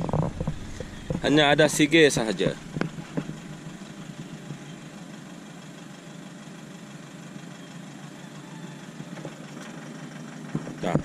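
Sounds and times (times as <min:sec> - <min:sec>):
pickup engine idling: 0:00.0 - 0:11.0.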